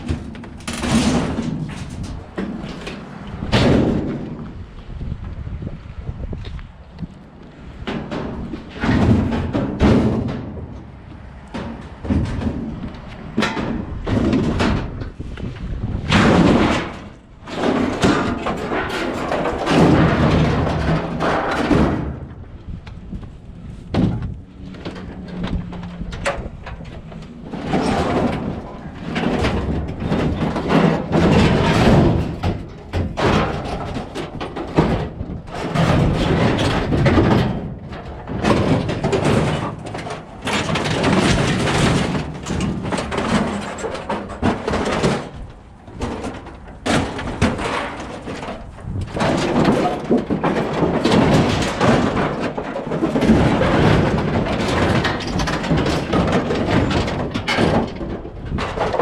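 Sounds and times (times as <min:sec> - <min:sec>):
scrap metal thumps and bangs: 0:00.0 - 0:04.7, 0:07.6 - 0:59.0.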